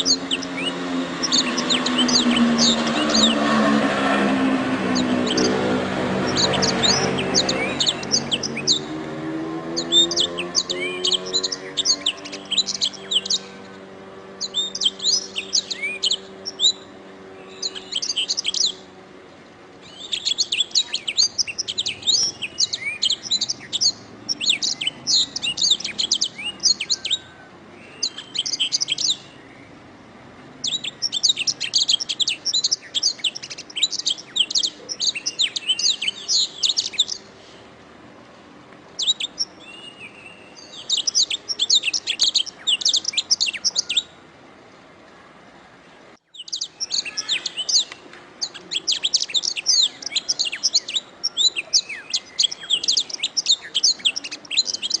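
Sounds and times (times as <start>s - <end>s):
canary singing trills: 0.0s - 19.0s, 19.8s - 29.9s, 30.5s - 37.6s, 38.9s - 44.2s, 46.3s - 55.0s.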